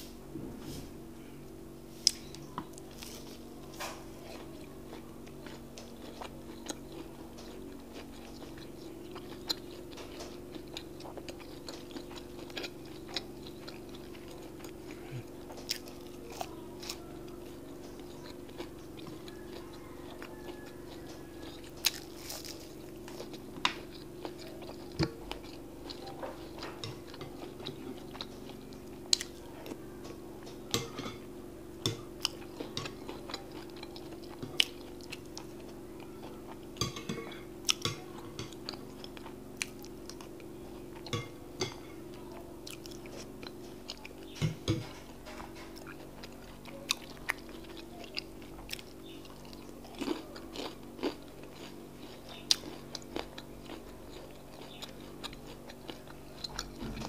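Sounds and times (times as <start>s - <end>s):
steady low hum: 0.0s - 57.0s
person chewing with wet smacks: 2.0s - 31.2s, 31.8s - 57.0s.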